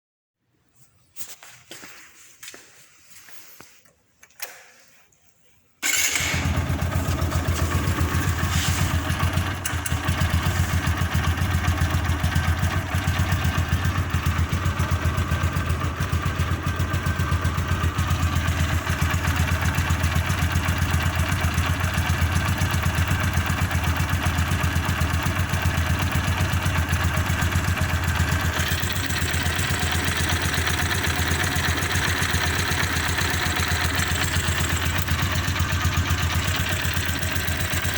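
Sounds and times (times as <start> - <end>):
motorcycle engine starting and idling: 5.8 - 37.9.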